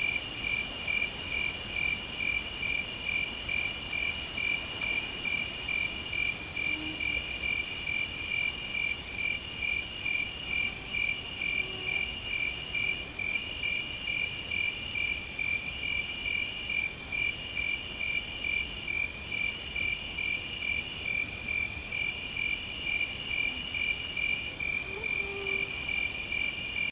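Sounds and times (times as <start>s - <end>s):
cricket trilling: 0.0s - 26.9s
hissing insect song: 0.0s - 26.9s.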